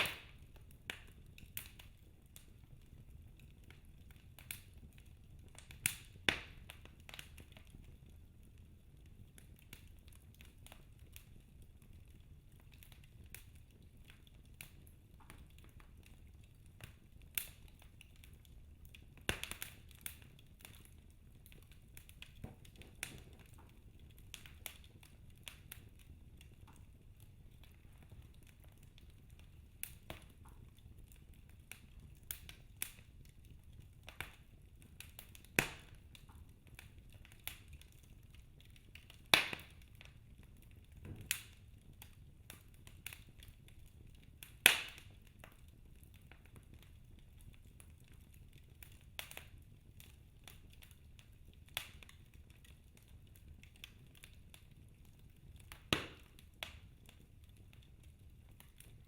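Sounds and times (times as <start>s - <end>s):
wood fire crackling pops: 0.0s - 59.0s.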